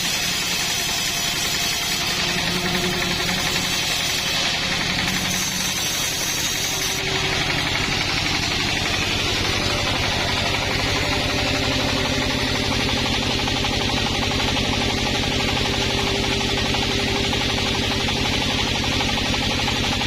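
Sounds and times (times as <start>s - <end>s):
chainsaw engine running: 0.0s - 20.0s.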